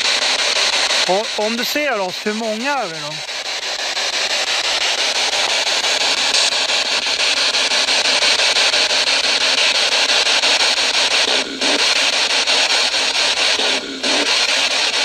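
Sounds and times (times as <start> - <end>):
chopped radio static hiss: 0.0 - 15.0.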